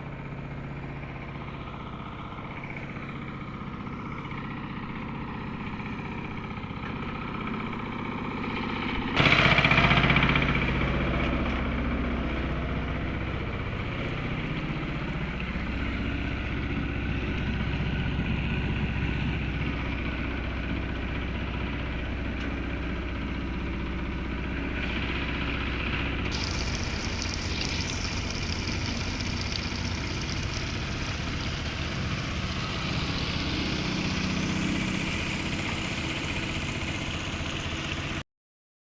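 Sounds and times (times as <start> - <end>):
truck engine running: 0.0 - 38.2.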